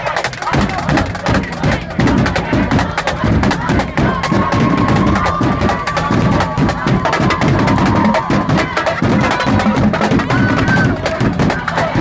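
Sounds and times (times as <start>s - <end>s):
bass drums: 0.0s - 12.0s
snare drums: 0.0s - 12.0s.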